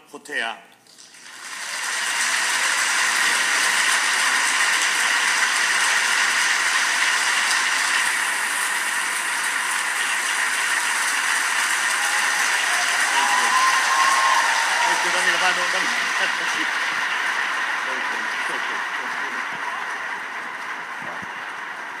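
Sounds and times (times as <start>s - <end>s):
audience applauding: 1.1s - 22.0s.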